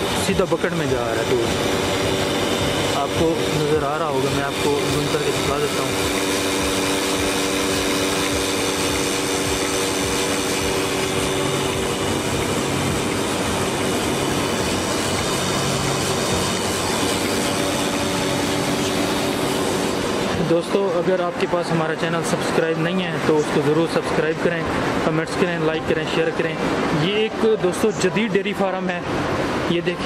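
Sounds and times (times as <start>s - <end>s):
milking machine pump humming: 0.0s - 30.0s.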